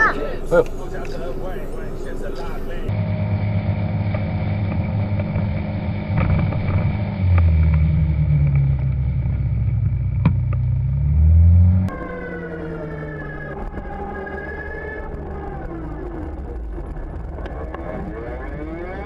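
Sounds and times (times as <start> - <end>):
quieter engine running: 0.0 - 19.0
vehicle engine running: 0.0 - 19.0.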